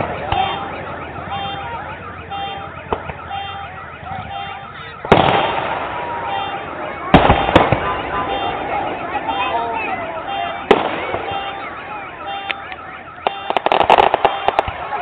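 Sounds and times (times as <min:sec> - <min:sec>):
car alarm warbling: 0:00.0 - 0:15.0
fireworks bursting: 0:00.0 - 0:15.0.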